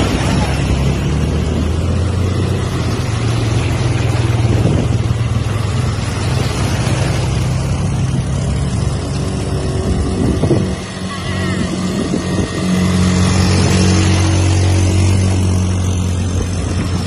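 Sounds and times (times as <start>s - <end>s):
quad bike engines running: 0.0s - 17.0s
water splashing around wheels: 0.0s - 17.0s.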